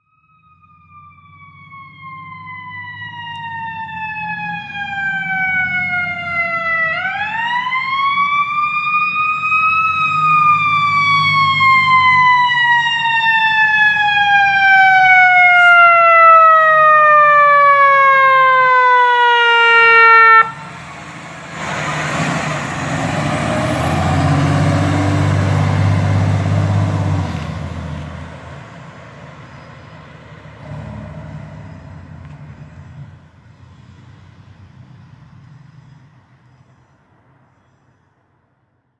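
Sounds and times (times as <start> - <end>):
fire truck siren: 0.0 - 33.5
road noise: 0.2 - 38.9
truck engine rumble: 0.5 - 37.3.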